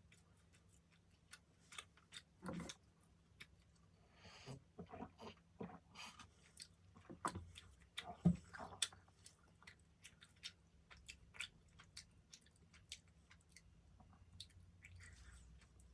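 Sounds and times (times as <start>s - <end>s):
person chewing pastry: 0.0s - 15.9s.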